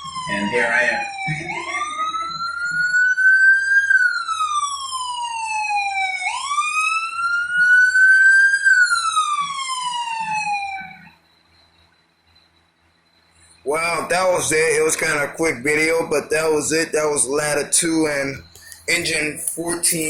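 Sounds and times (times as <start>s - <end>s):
emergency siren wailing: 0.0s - 11.2s, 13.6s - 20.0s.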